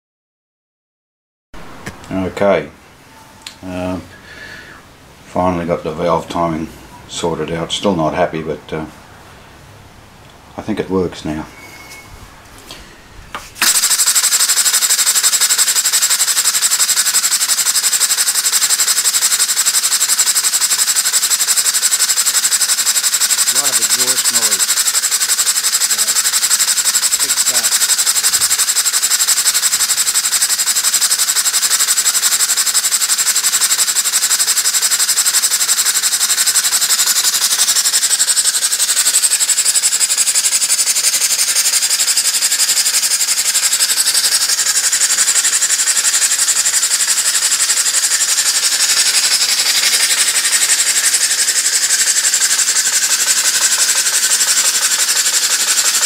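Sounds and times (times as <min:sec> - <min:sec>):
steam engine exhaust hissing: 0:03.6 - 0:07.8, 0:13.5 - 0:56.0.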